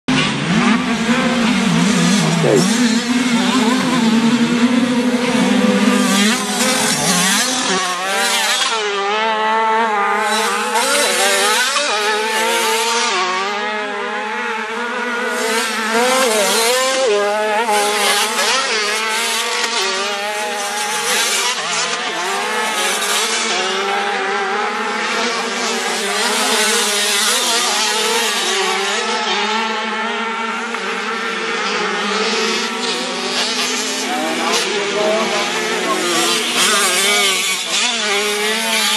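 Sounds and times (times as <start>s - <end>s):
motocross bike engines revving: 0.1s - 38.9s.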